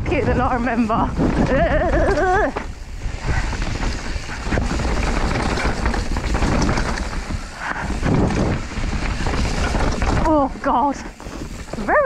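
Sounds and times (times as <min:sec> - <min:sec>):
bike rattling: 0:00.0 - 0:12.0
low rumble: 0:00.0 - 0:12.0
tyres crunching over stones: 0:00.6 - 0:12.0.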